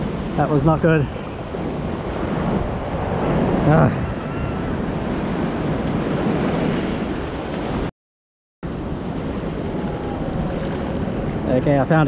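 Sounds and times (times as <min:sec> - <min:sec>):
surf washing and foaming: 0:00.0 - 0:07.9, 0:08.7 - 0:12.0
wind buffeting microphone: 0:00.0 - 0:07.9, 0:08.7 - 0:12.0.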